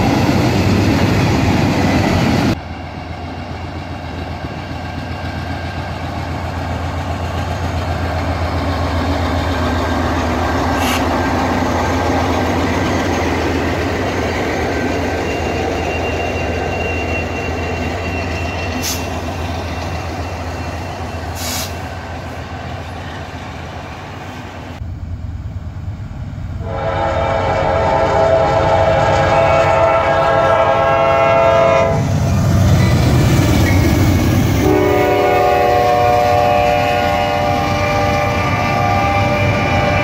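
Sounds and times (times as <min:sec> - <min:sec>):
diesel locomotive engine hum: 0:00.0 - 0:40.0
train cars rolling by: 0:00.0 - 0:40.0.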